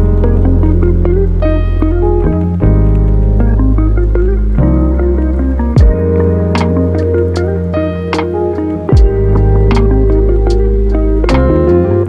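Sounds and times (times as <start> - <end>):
deep bass notes: 0.0 - 12.0
melody of short pitched notes: 0.0 - 12.0.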